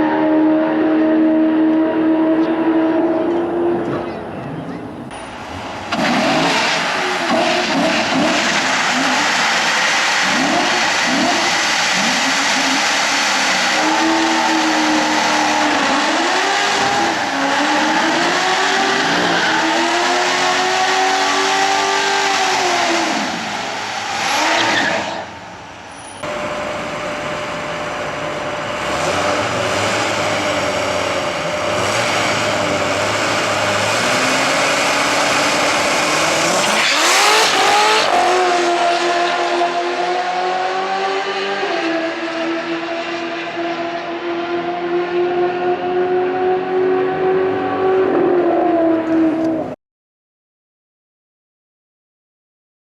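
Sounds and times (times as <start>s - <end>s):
car engine revving: 0.0s - 49.8s.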